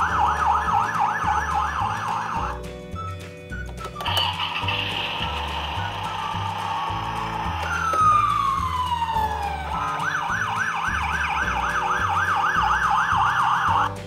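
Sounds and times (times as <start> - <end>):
toy electronic siren: 0.0 - 2.6, 3.8 - 14.0.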